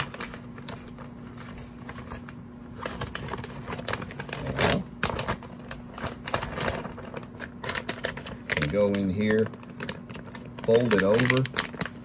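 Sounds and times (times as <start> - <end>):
bag crinkling and crackling: 0.0 - 12.0.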